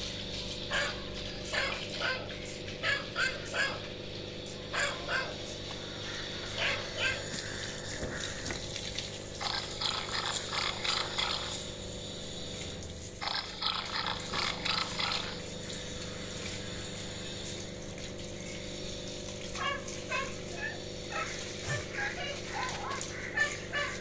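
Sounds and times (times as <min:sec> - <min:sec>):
steady background hum: 0:00.0 - 0:24.0
rapid harsh animal calls: 0:00.7 - 0:24.0.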